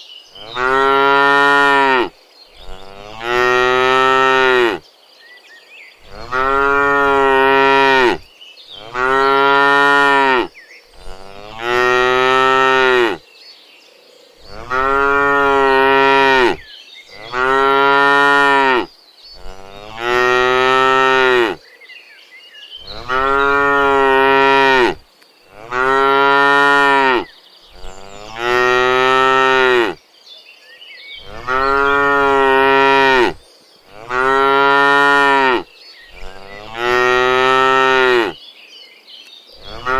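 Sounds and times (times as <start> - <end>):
cow mooing: 0.4 - 4.8, 6.0 - 8.2, 8.8 - 13.2, 14.4 - 21.6, 22.8 - 30.0, 31.2 - 38.4, 39.6 - 39.9.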